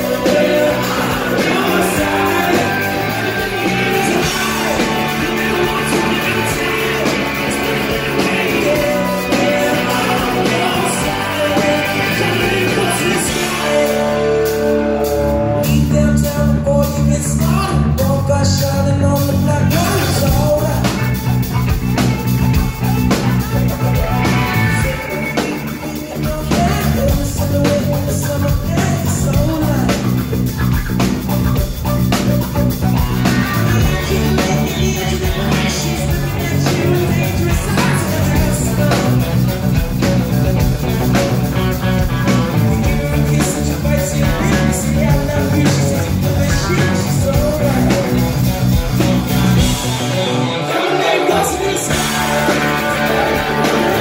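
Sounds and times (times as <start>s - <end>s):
drums: 0.0s - 54.0s
electric guitars: 0.0s - 54.0s
man singing lead vocals: 0.0s - 54.0s.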